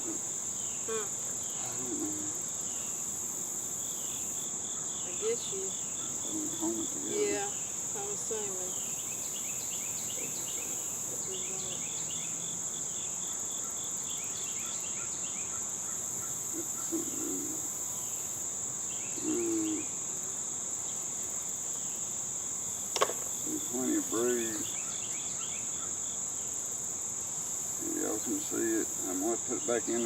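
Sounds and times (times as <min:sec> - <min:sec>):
high-pitched insect trilling: 0:00.0 - 0:30.0
short repeated insect chirps: 0:00.0 - 0:30.0.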